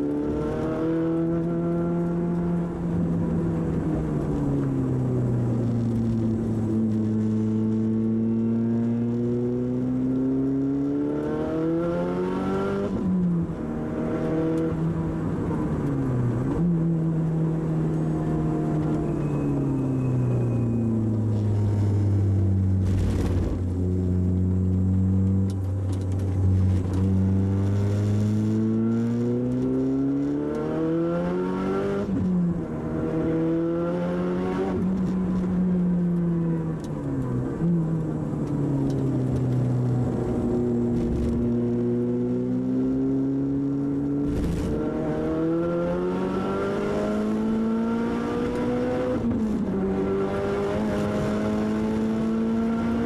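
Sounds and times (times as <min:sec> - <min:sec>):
car engine revving: 0:05.4 - 0:19.0, 0:21.2 - 0:35.6, 0:36.2 - 0:53.0.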